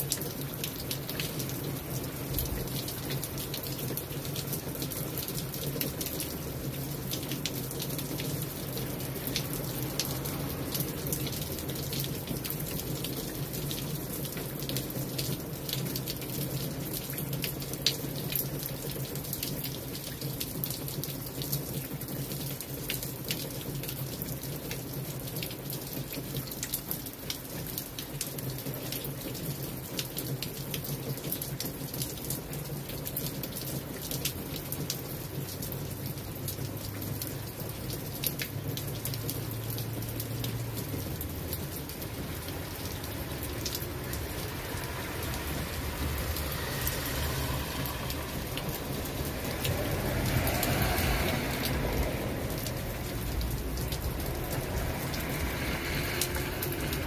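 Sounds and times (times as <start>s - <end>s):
car driving by on wet street: 0.0s - 57.0s
rain pattering on brick paving: 0.0s - 57.0s.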